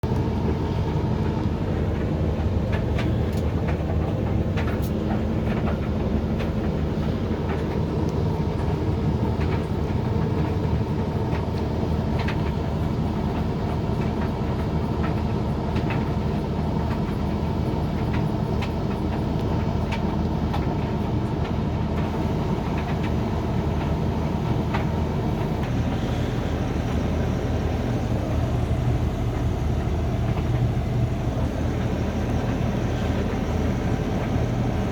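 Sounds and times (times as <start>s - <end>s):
tumble dryer motor hum: 0.0s - 34.9s.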